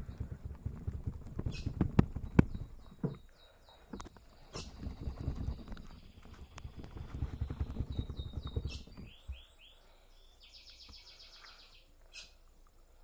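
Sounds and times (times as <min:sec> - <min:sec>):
bird chirping and trilling: 0:01.5 - 0:12.4.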